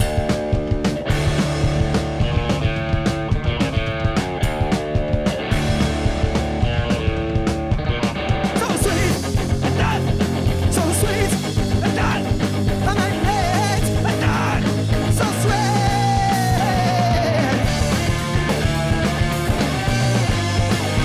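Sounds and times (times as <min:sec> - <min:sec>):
live punk rock band: 0:00.0 - 0:21.0.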